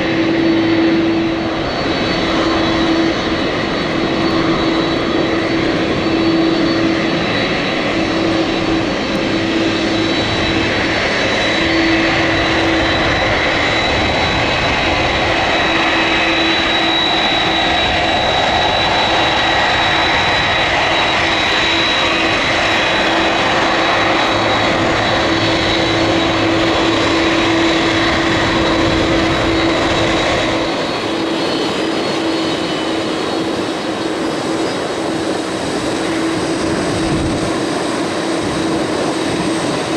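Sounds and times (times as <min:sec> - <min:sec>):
high engine whine: 0:00.0 - 0:39.9
jet engines running: 0:00.0 - 0:39.9.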